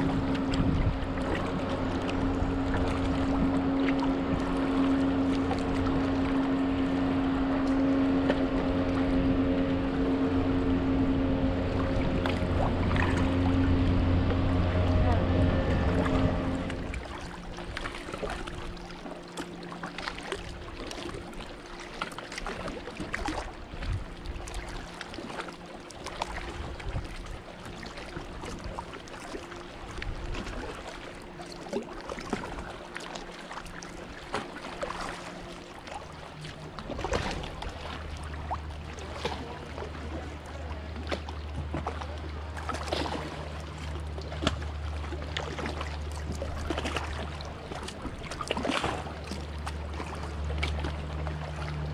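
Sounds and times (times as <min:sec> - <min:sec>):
low hum: 0:00.0 - 0:51.9
paddle splashes and drips: 0:00.0 - 0:51.9
water lapping at hull: 0:00.0 - 0:51.9.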